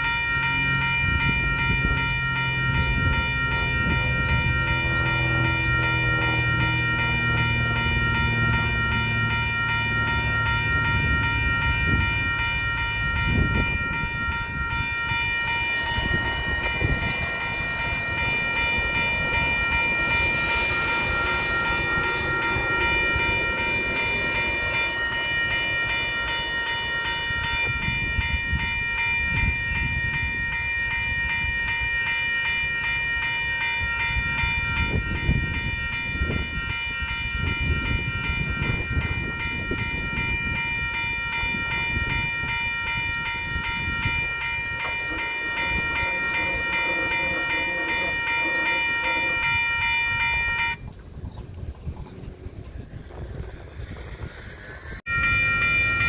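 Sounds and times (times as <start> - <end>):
rapidly pulsing high ringing: 0.0 - 56.0
train rumbling past: 0.0 - 56.0.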